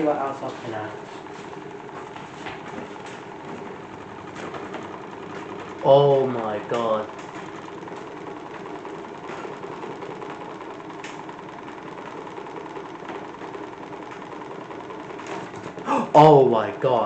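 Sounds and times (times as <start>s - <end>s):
small electric fan motor running: 0.0s - 17.0s.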